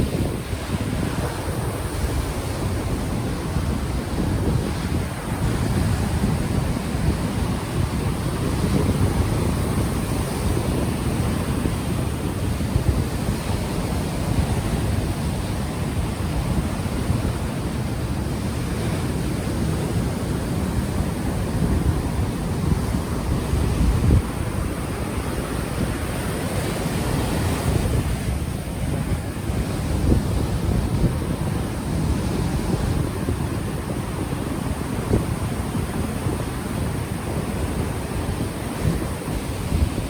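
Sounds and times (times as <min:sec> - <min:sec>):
ocean surf washing ashore: 0:00.0 - 0:40.0
wind buffeting microphone: 0:00.0 - 0:40.0.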